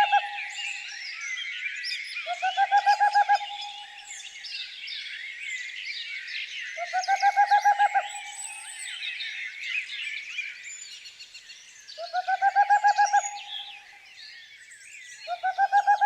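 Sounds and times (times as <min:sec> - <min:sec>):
songbirds chirping and whistling: 0:00.0 - 0:16.0.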